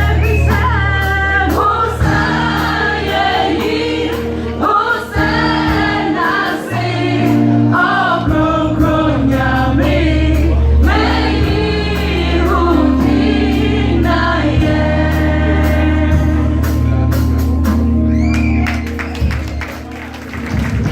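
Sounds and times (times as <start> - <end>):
choir singing gospel: 0.0 - 18.1
instrumental accompaniment: 0.0 - 20.9.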